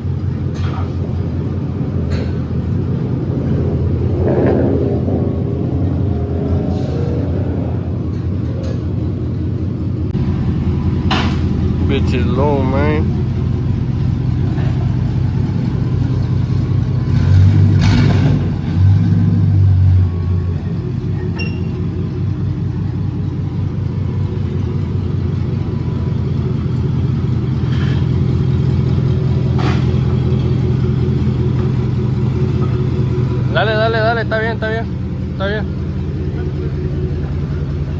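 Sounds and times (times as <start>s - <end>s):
truck engine revving and idling: 0.0s - 37.9s.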